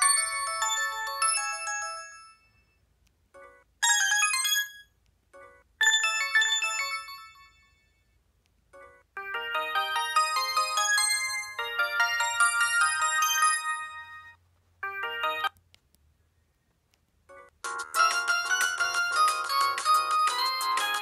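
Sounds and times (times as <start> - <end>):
phone ringtone melodies: 0.0 - 2.6, 3.4 - 8.0, 8.8 - 15.6, 17.3 - 21.0.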